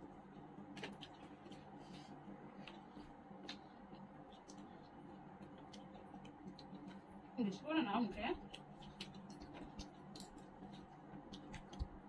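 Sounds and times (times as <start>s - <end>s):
soft chewing clicks: 0.0s - 7.4s, 8.3s - 12.0s
low steady hum: 0.0s - 12.0s.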